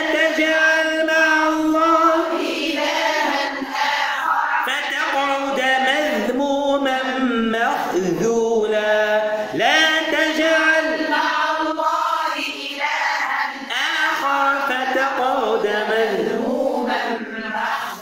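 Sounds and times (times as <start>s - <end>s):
man chanting recitation: 0.0s - 3.4s, 4.4s - 12.6s, 13.6s - 18.0s.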